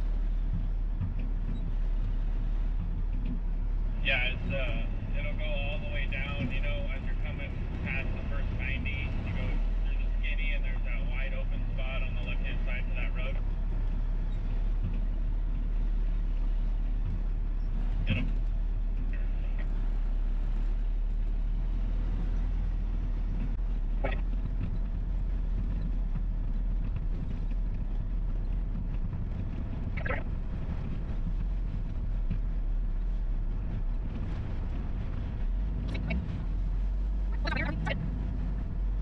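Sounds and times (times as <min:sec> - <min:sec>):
diesel truck engine rumble: 0:00.0 - 0:39.0
road noise: 0:00.0 - 0:39.0.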